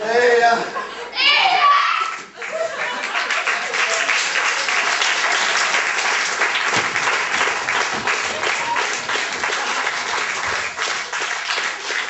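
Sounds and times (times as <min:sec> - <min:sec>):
crowd applauding: 0:02.2 - 0:12.0.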